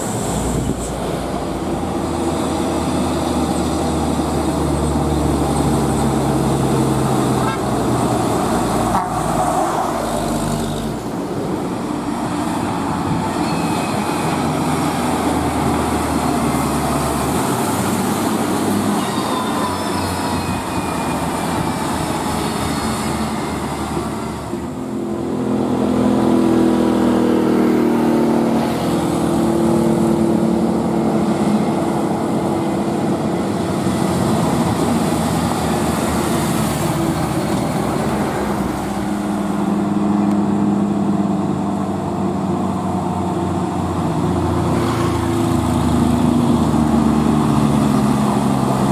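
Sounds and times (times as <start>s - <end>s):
truck engine labouring uphill: 0.0s - 48.9s.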